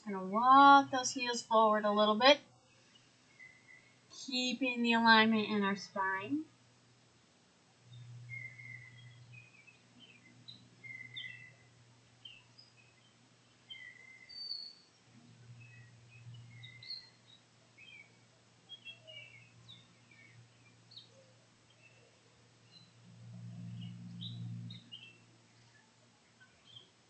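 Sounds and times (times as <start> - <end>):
faint birds chirping: 0.0 - 27.0
low steady hum: 0.0 - 27.0.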